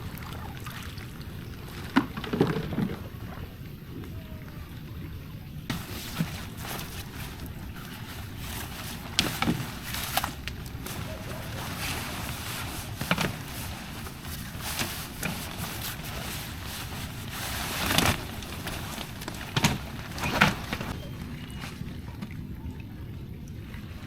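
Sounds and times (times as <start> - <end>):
canoe paddle splashing: 0.0 - 24.0
rain: 0.0 - 24.0
wind: 0.0 - 24.0.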